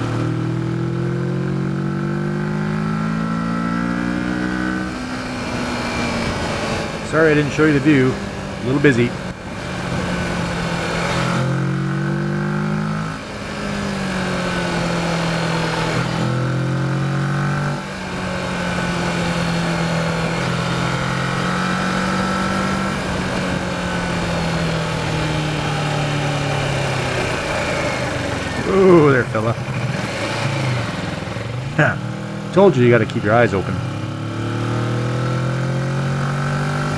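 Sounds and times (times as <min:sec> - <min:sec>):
motorcycle engine under load: 0:00.0 - 0:36.9.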